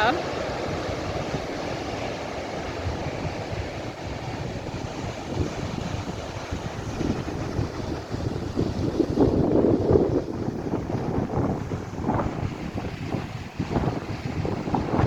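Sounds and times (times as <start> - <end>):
sea waves washing on beach: 0.0 - 15.0
wind buffeting microphone: 0.0 - 15.0.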